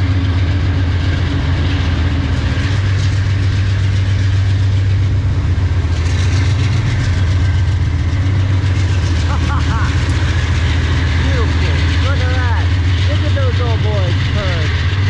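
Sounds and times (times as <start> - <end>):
faint metallic train rattle: 0.0 - 15.0
locomotive engine droning: 0.0 - 15.0.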